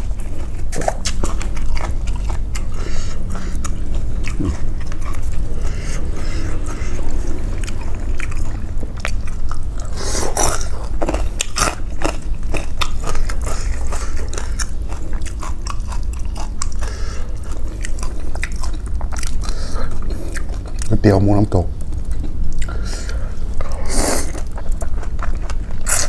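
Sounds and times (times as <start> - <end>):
noisy slurps: 0.0 - 20.9
wet chewing and mouth clicks: 0.0 - 21.0, 21.7 - 26.0.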